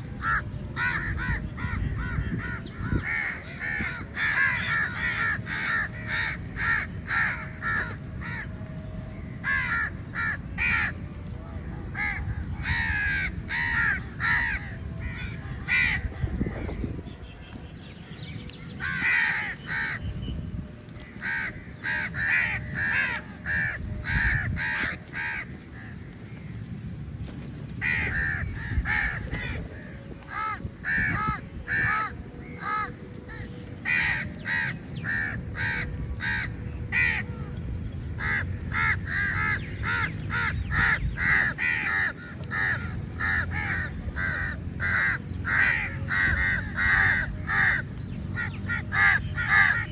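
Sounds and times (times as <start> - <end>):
crows cawing: 0.2 - 8.6, 9.4 - 11.0, 11.9 - 16.8, 18.8 - 20.0, 21.0 - 26.7, 27.8 - 49.9.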